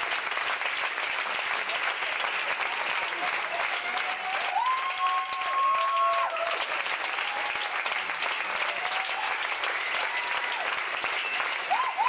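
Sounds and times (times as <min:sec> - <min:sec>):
audience applauding: 0:00.0 - 0:12.0
crowd cheering: 0:00.0 - 0:12.0.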